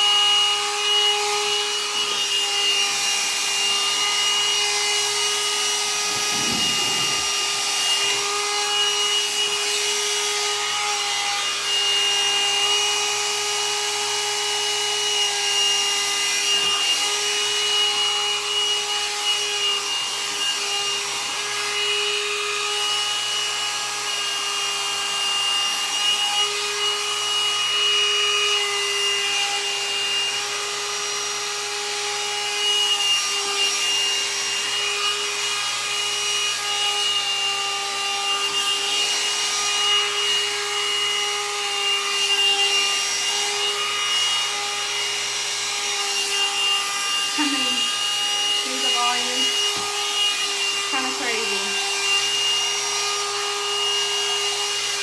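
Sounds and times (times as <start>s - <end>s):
hot-air dryer brush whining: 0.0s - 55.0s.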